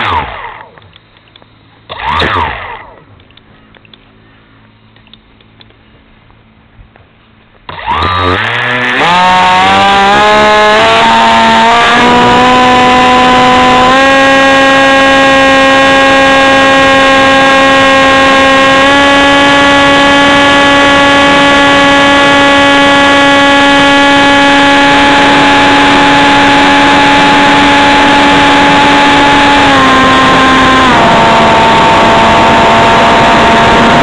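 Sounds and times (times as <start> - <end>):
electric motor and propeller whining: 0.0 - 4.0, 7.6 - 34.0.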